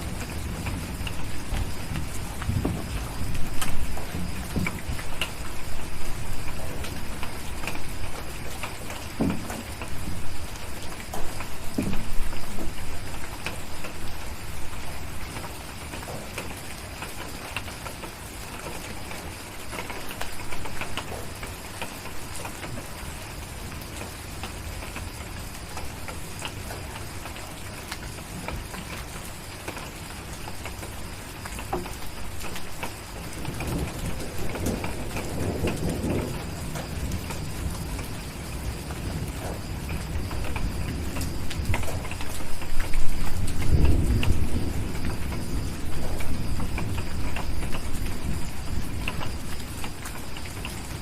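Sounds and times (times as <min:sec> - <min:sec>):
low rumble of thunder: 0:00.0 - 0:51.0
steady rain: 0:00.0 - 0:51.0.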